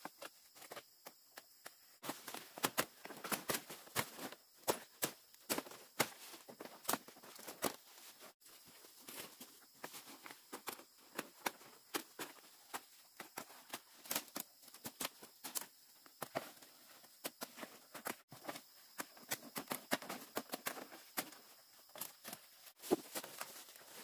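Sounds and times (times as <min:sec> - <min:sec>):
leaves rustling and crackling: 0:02.0 - 0:16.5, 0:17.5 - 0:24.0.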